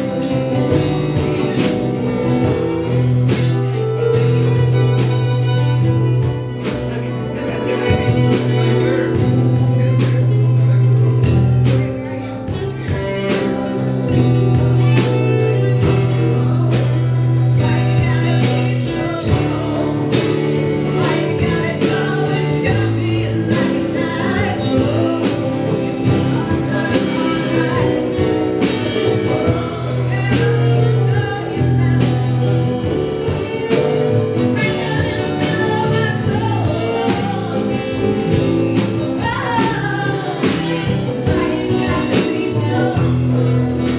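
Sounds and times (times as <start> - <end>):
live band playing: 0.0 - 43.9
prominent bass line: 0.0 - 43.9
steady drum beat: 0.0 - 43.9.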